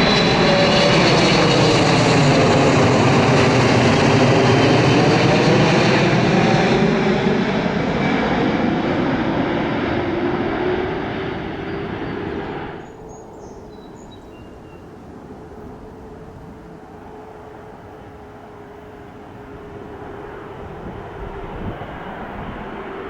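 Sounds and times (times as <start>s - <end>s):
jet airliner engines: 0.0s - 23.0s.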